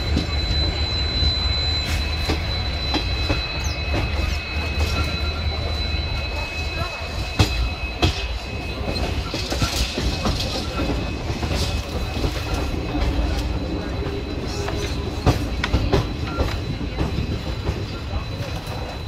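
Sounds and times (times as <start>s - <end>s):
thin high tone: 0.0s - 19.0s
train wheels rumbling on track: 0.0s - 19.0s.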